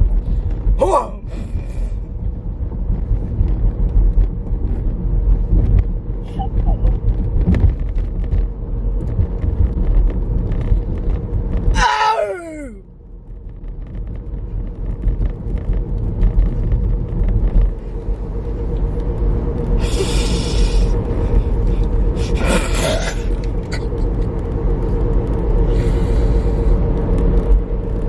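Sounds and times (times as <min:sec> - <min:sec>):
car cabin road noise: 0:00.0 - 0:28.0.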